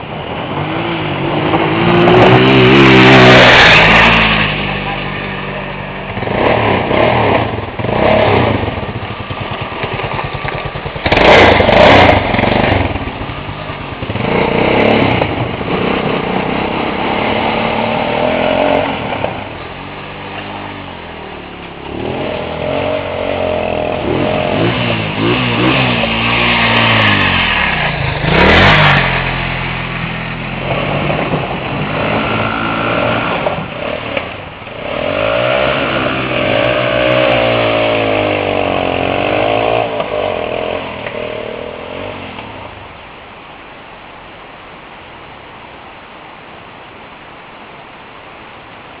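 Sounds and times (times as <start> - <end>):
motorcycle engine revving: 0.0 - 42.8.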